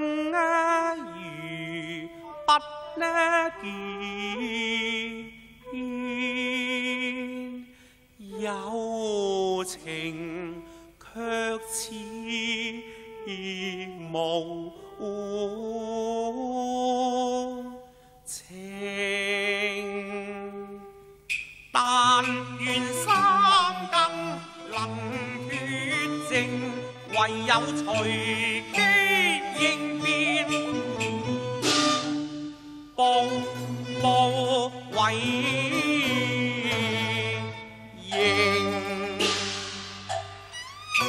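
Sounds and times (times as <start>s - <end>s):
opera singing: 0.0s - 7.6s, 8.2s - 20.8s, 21.8s - 32.2s, 33.0s - 39.7s.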